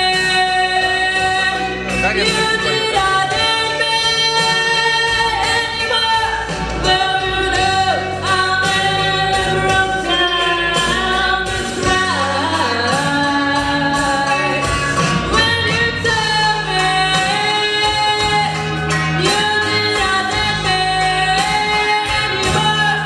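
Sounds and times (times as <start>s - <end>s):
musical accompaniment: 0.0s - 23.0s.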